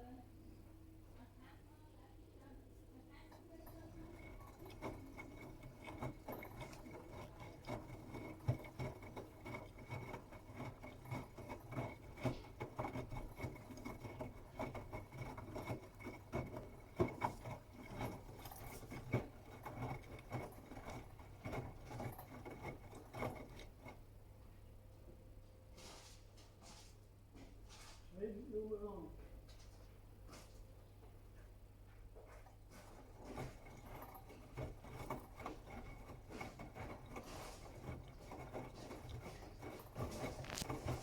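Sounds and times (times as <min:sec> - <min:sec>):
washing machine hum: 0:00.0 - 0:41.0.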